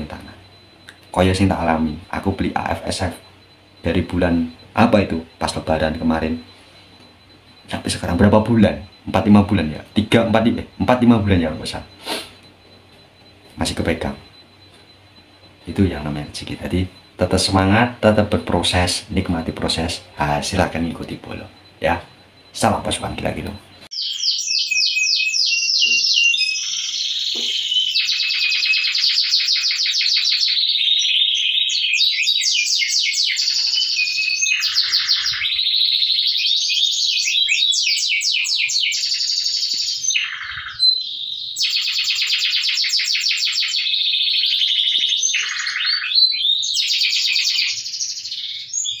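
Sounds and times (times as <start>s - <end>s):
canary singing trills: 0.0s - 49.0s.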